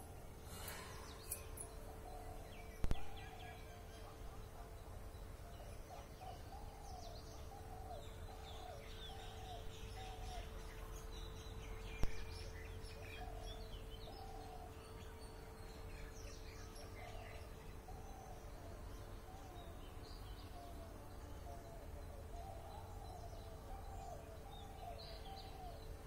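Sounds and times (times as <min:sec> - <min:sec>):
faint steady hum: 0:00.0 - 0:26.0
high chirps of small birds: 0:00.3 - 0:26.0.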